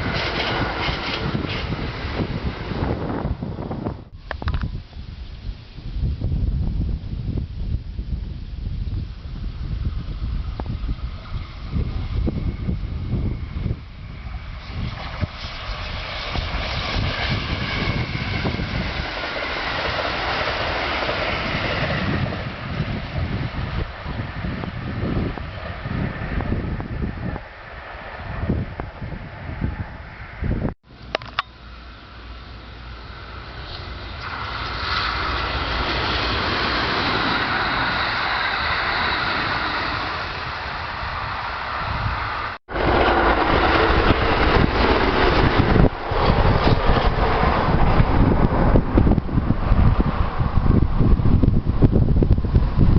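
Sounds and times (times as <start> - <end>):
electric train passing: 0.0 - 4.2, 5.2 - 52.9
wind buffeting microphone: 0.0 - 31.4, 32.8 - 52.9.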